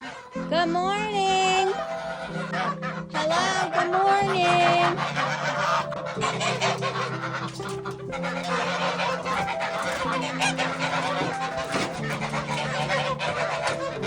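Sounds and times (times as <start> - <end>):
background music with held notes: 0.0 - 14.0
poultry calling and honking: 0.0 - 14.0.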